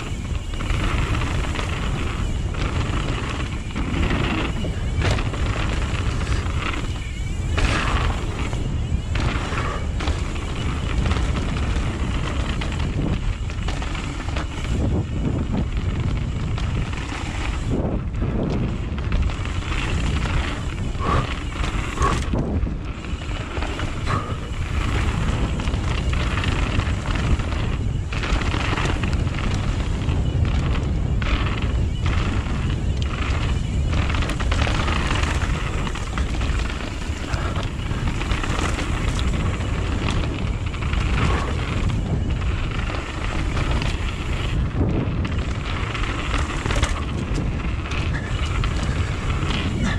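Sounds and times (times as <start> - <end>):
bike knocks and clatters: 0.0 - 49.9
bike tyre noise: 0.0 - 49.9
wind rumble on microphone: 0.0 - 49.9.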